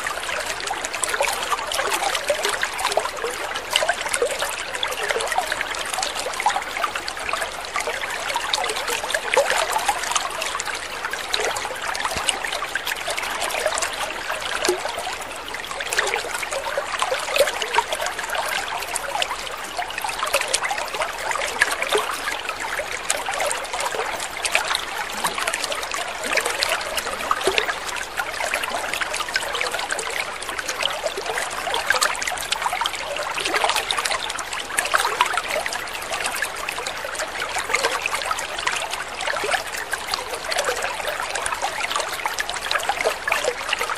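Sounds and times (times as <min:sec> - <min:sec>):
water trickling and splashing: 0:00.0 - 0:43.9.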